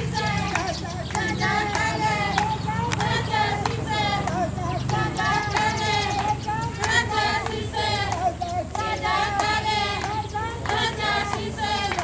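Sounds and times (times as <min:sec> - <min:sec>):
high voices singing together: 0:00.0 - 0:12.0.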